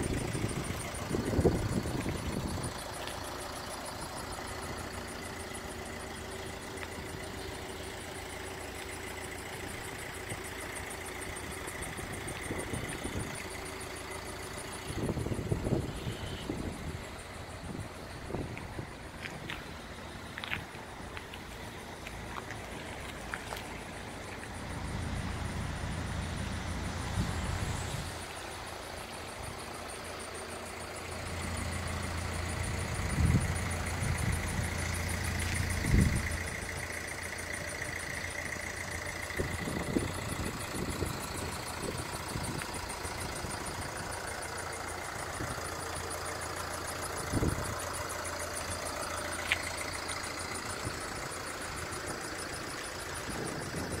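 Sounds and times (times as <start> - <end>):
van engine idling: 0.0 - 54.0.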